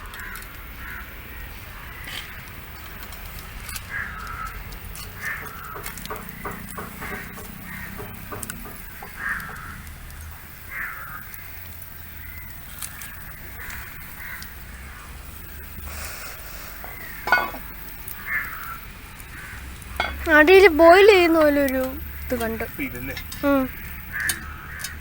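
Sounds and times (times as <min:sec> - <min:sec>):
crows cawing: 0:00.0 - 0:02.5, 0:03.6 - 0:21.2, 0:21.8 - 0:25.0.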